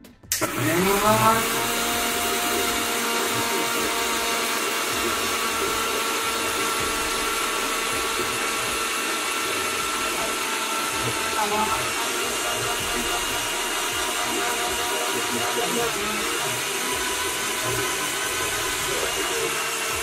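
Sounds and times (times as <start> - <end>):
mixer grinder motor whine: 0.3 - 20.0.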